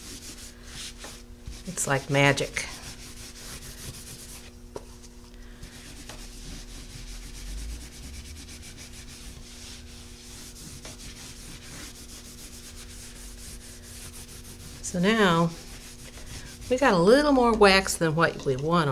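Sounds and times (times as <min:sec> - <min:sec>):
paper towel rubbing textured frame: 0:00.0 - 0:17.0.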